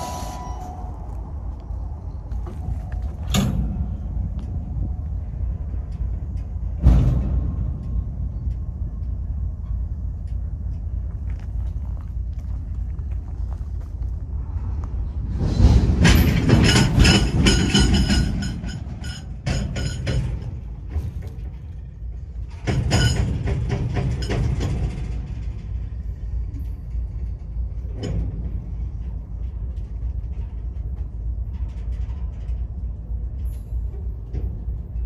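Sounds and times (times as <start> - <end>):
metallic squealing and clatter: 0.0 - 8.6, 15.1 - 35.0
freight train rumbling: 0.0 - 35.0.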